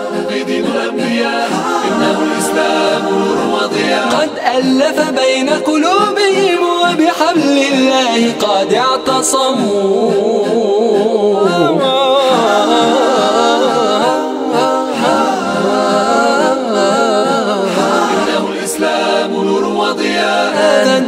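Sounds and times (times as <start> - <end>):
a cappella voices singing: 0.0 - 21.0.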